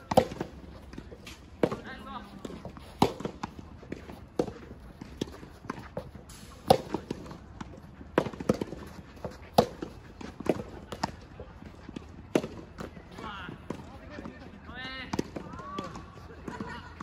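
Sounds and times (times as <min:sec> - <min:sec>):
balls bouncing on court: 0:00.0 - 0:17.0
tennis balls struck by rackets: 0:00.0 - 0:17.0.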